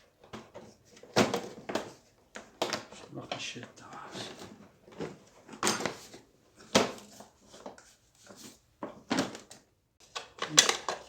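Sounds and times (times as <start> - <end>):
plastic clacks and knocks: 0.1 - 7.9, 8.8 - 11.0.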